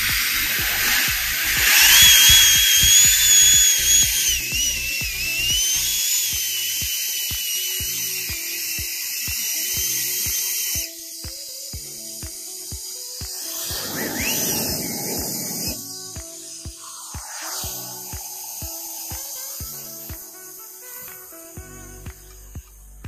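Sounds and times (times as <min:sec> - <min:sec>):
air dryer blasting air: 0:00.0 - 0:11.7, 0:12.6 - 0:21.5
background music with steady beat: 0:00.0 - 0:23.0.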